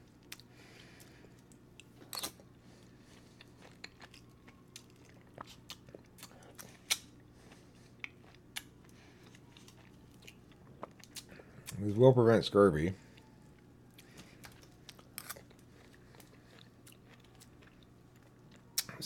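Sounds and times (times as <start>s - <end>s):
person chewing: 0.1s - 11.8s, 13.0s - 19.0s.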